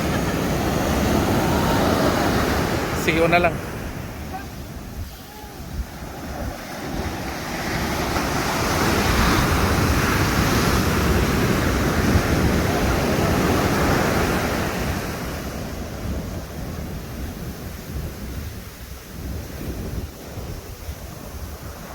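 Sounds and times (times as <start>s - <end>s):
wave breaking on beach: 0.0s - 21.9s.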